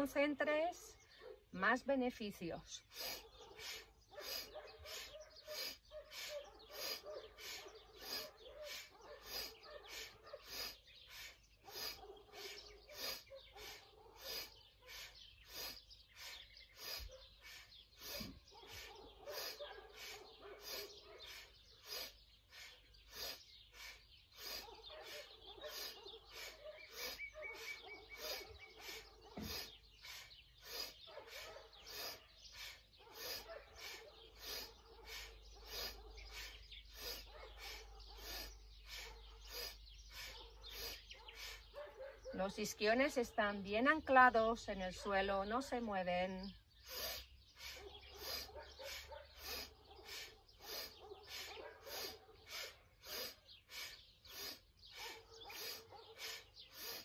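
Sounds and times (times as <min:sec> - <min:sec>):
person breathing quickly: 0:02.8 - 0:42.2, 0:46.8 - 0:57.0.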